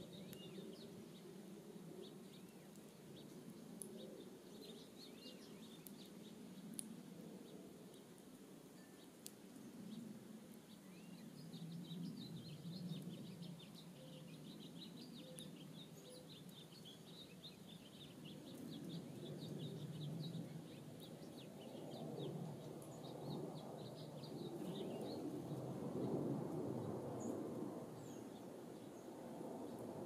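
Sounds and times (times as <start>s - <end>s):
small birds twittering: 0.0s - 30.0s.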